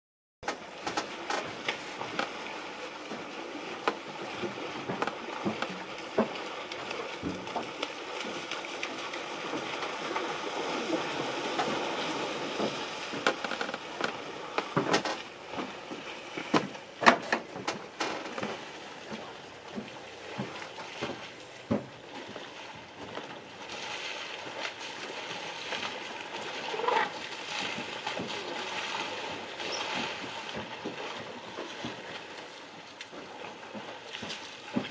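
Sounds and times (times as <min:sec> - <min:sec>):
elephants splashing in water: 0:00.5 - 0:34.9.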